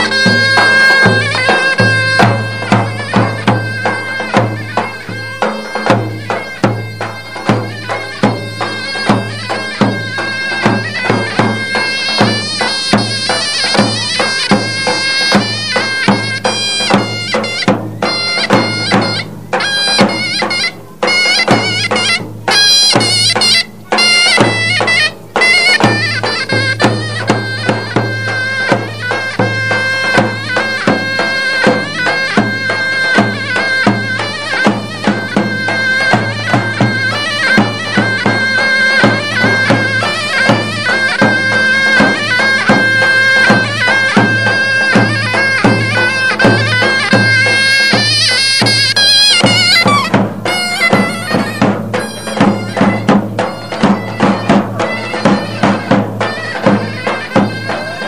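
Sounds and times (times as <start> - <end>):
double-reed pipe melody: 0.0 - 58.0.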